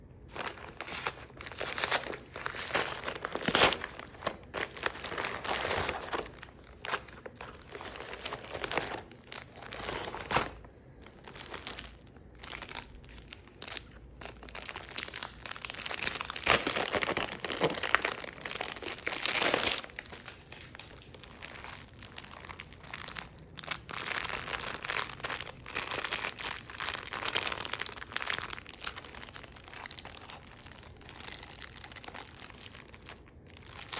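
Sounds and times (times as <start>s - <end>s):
plastic packaging crinkling: 0.1s - 33.9s.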